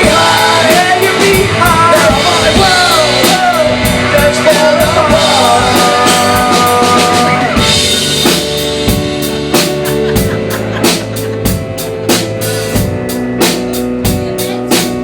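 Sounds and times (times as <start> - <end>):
rock band playing: 0.0 - 15.0
steady drum beat: 0.0 - 15.0.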